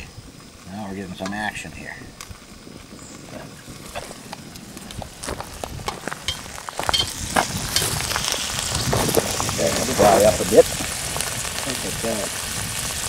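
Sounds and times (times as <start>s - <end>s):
sauerkraut sizzling in a pan: 0.0s - 13.0s.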